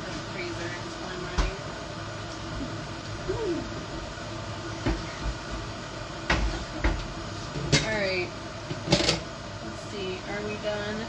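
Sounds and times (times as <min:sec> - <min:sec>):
mechanical hum and hiss: 0:00.0 - 0:11.0.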